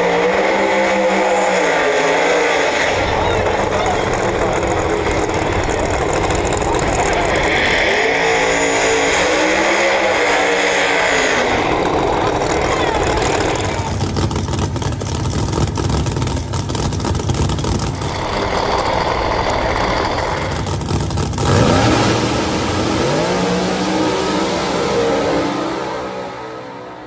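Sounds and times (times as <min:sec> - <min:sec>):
drag car engines crackling: 0:00.0 - 0:27.0
engines revving as cars accelerate: 0:00.0 - 0:27.0.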